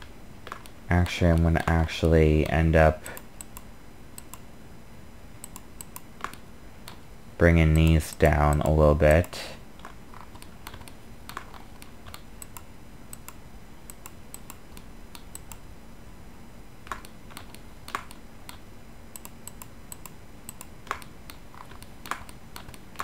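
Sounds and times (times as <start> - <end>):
keyboard and mouse clicking: 0.0 - 1.5, 2.4 - 4.4, 5.4 - 7.0, 7.7 - 15.6, 16.8 - 23.0
faint low hum: 0.0 - 23.0.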